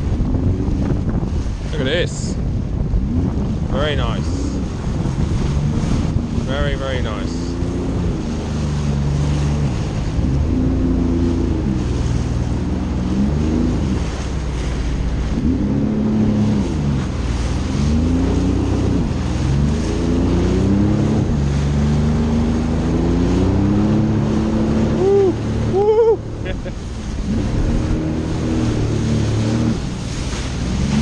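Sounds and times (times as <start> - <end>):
jet ski engine revving: 0.0 - 31.0
wind and water rushing: 0.0 - 31.0.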